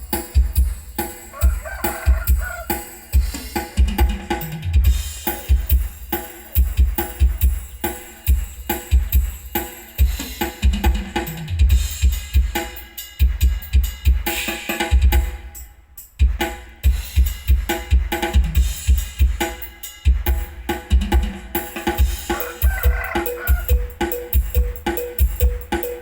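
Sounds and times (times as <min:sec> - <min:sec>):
music with pounding bass beat: 0:00.0 - 0:26.0.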